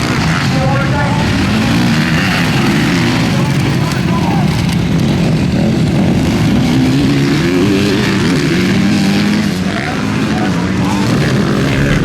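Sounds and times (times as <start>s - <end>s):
motocross engines revving: 0.0s - 12.0s.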